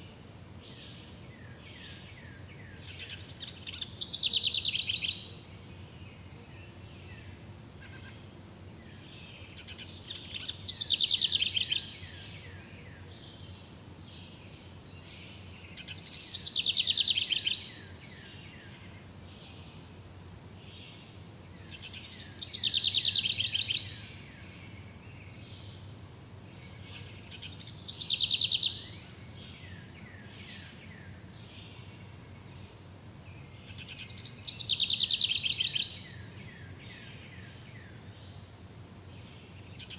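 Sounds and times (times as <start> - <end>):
faint insect drone: 0.0 - 39.9
songbird trilled song: 0.6 - 19.8, 20.4 - 25.9, 26.5 - 38.4.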